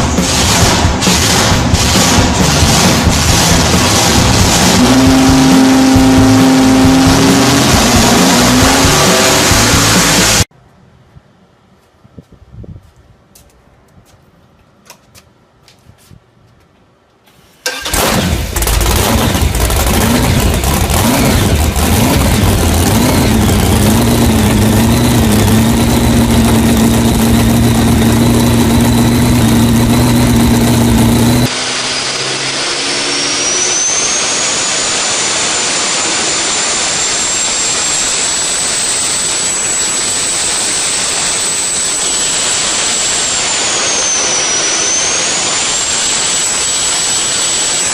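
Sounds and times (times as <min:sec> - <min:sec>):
engine starting and droning: 0:00.0 - 0:10.5, 0:17.6 - 0:47.9
engine with high whine: 0:00.0 - 0:10.5, 0:17.6 - 0:47.9.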